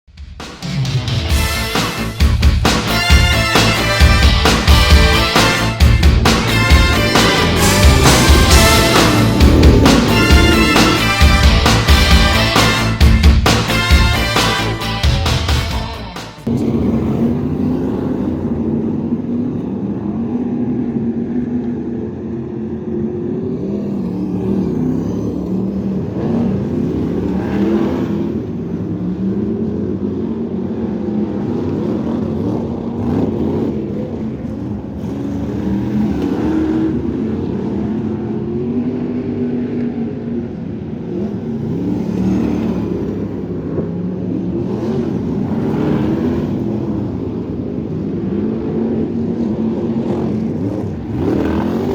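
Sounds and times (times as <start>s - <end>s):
race car engine revving: 0.6s - 39.3s, 41.0s - 51.9s.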